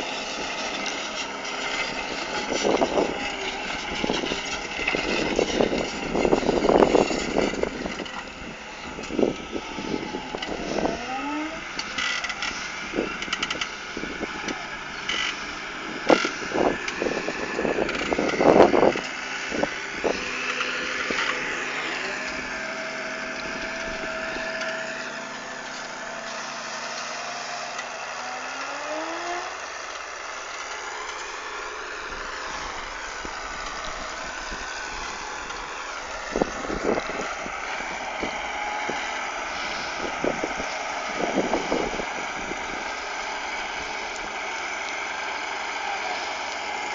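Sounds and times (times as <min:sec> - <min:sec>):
tractor engine under load: 0:00.0 - 0:46.9.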